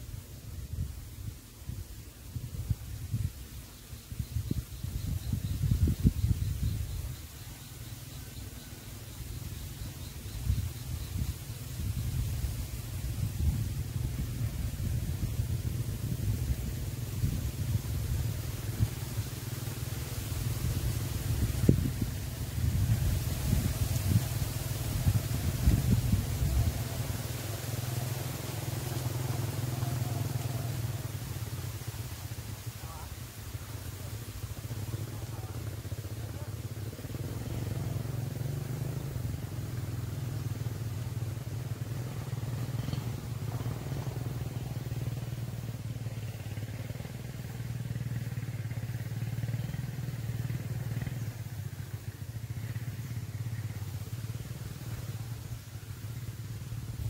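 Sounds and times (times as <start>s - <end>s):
small engine humming: 4.4s - 57.0s.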